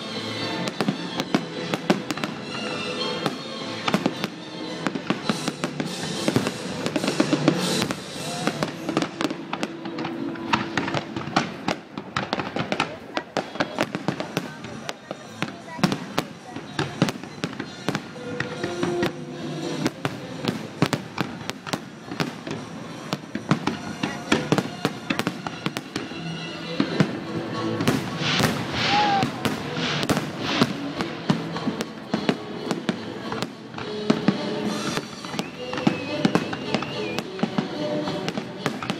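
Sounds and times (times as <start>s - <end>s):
fireworks hiss and crackle: 0.0s - 38.9s.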